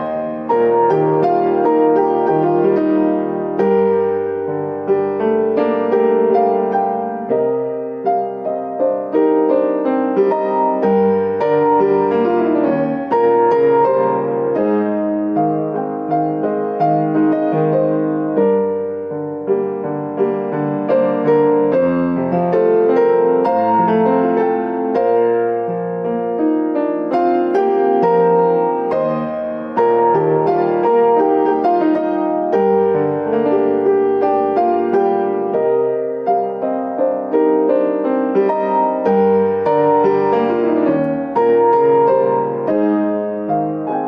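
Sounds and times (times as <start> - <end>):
piano melody over chords: 0.0 - 44.0.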